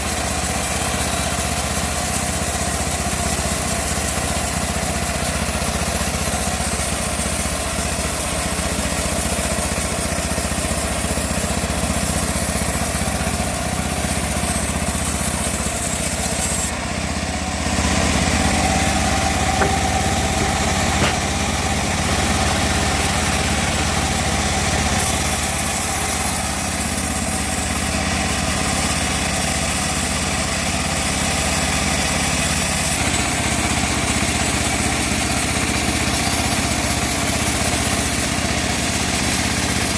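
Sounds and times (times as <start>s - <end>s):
bandsaw mill sawing log: 0.0s - 39.9s.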